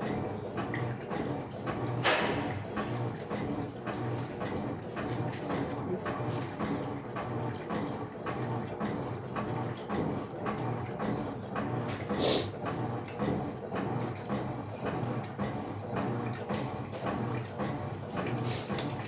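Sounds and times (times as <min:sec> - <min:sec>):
washing machine motor hum: 0:00.0 - 0:19.0
water and clothes sloshing: 0:00.0 - 0:19.0.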